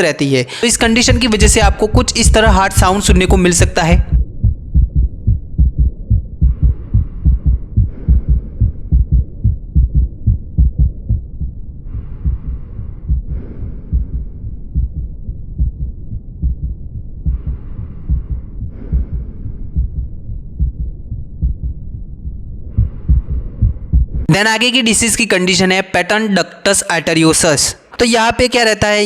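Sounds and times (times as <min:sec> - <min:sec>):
heartbeats through stethoscope: 0:01.0 - 0:24.3.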